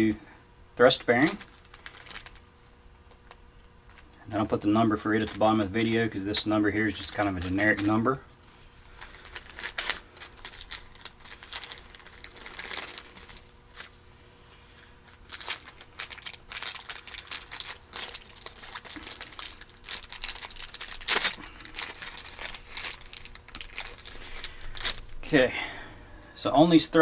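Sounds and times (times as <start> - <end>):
plastic packaging crinkling: 0.8 - 14.0, 14.6 - 25.4.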